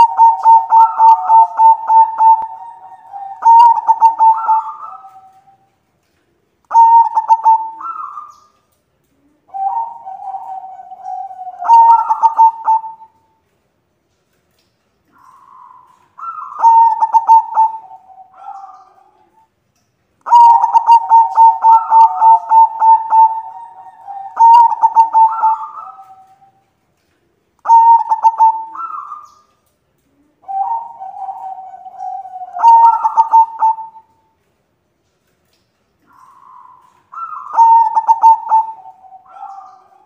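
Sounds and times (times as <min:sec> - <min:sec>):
doves cooing: 0:00.0 - 0:13.4, 0:15.0 - 0:19.5, 0:20.2 - 0:34.4, 0:35.0 - 0:40.0.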